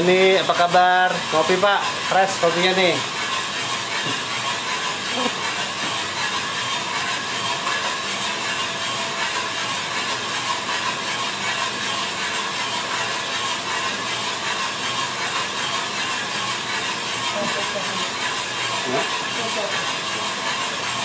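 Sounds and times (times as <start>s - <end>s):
beans rattling in drum: 0.0s - 21.0s
coffee roaster drum and fan rushing: 0.0s - 21.0s.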